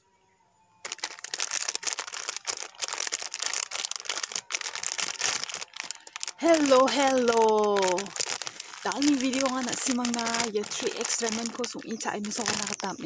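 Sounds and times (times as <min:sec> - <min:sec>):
plastic wrapper crinkling: 0:00.8 - 0:13.0.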